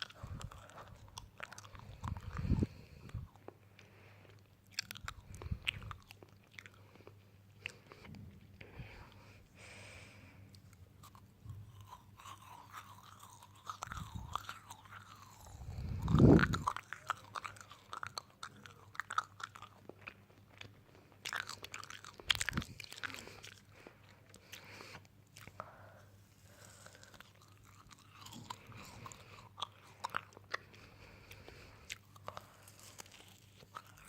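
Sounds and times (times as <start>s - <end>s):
crunchy chewing: 0.0s - 9.3s, 10.4s - 34.0s.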